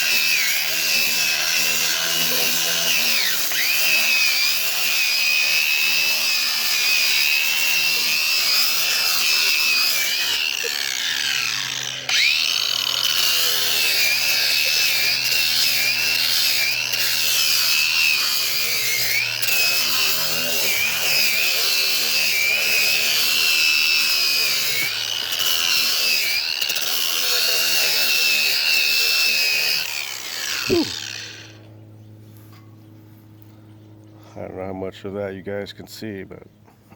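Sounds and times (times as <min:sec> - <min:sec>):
power grinder whining: 0:00.0 - 0:31.8.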